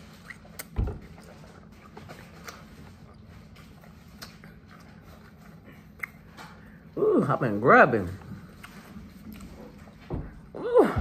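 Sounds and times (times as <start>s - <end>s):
soft chewing: 0.0s - 10.6s.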